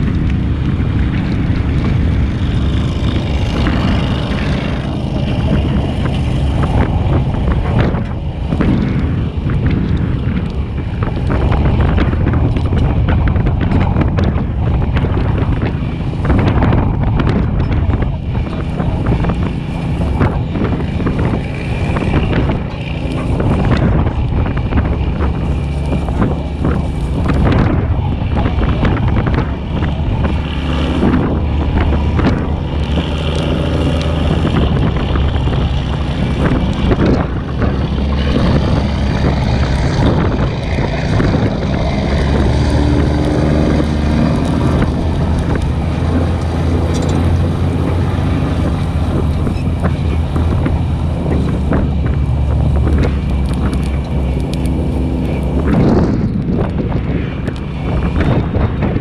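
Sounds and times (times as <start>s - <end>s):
truck engine running: 0.0s - 59.0s
wind buffeting microphone: 0.0s - 59.0s.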